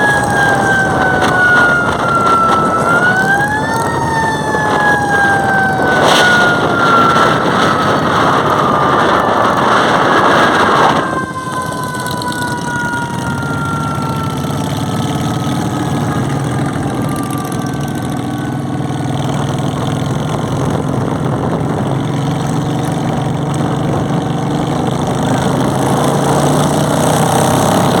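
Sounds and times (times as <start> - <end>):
motorcycle engines running: 0.0 - 28.0.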